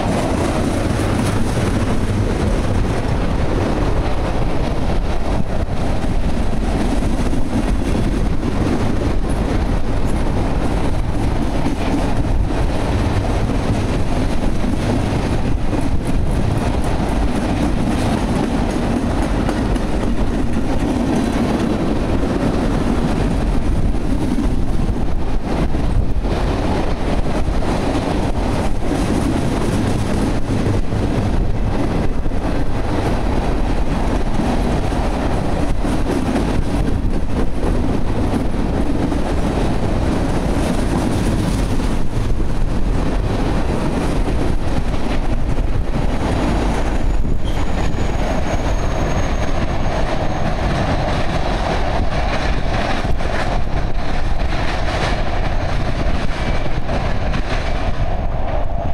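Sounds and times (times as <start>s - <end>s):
wheels clicking over rail joints: 0.0s - 58.0s
steel wheels rumbling on rail: 0.0s - 58.9s.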